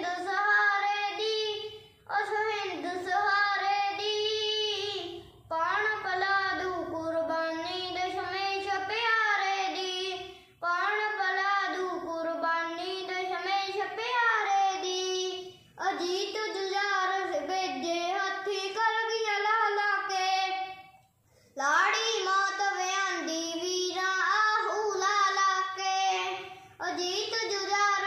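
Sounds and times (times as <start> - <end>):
boy singing unaccompanied: 0.0 - 20.9, 21.6 - 28.0.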